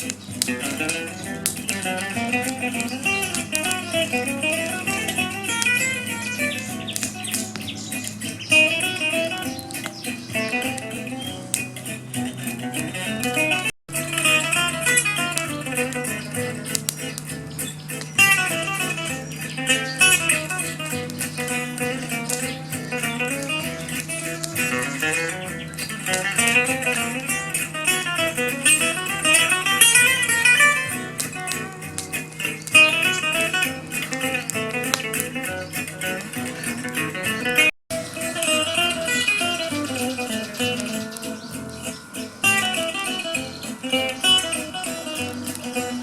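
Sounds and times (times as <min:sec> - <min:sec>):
plucked acoustic guitar: 0:00.0 - 0:46.0.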